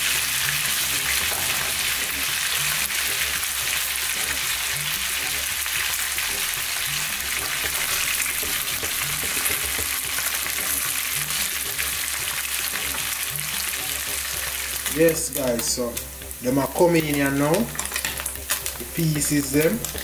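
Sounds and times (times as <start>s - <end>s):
fish frying in hot oil: 0.0s - 20.0s
spatula stirring in a pan: 0.0s - 20.0s.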